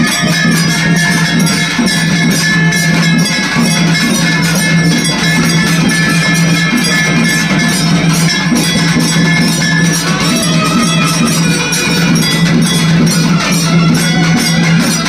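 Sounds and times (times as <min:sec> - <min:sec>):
bells struck rapidly: 0:00.0 - 0:15.0
steady low drone: 0:00.0 - 0:15.0.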